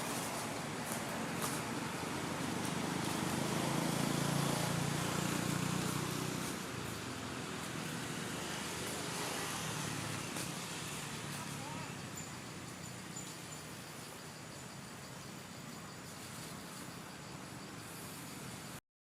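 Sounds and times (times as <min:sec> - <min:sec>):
steady outdoor hiss: 0:00.0 - 0:18.8
vehicle engine hum: 0:00.0 - 0:18.8.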